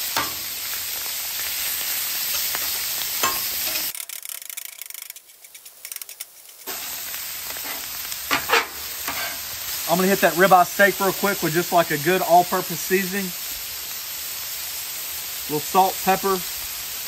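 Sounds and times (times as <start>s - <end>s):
meat sizzling on a griddle: 0.0s - 4.0s, 5.7s - 17.0s.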